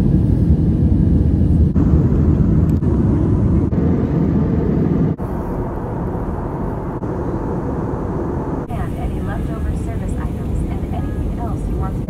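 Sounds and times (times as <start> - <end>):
jet engines in airliner cabin: 0.0 - 12.0.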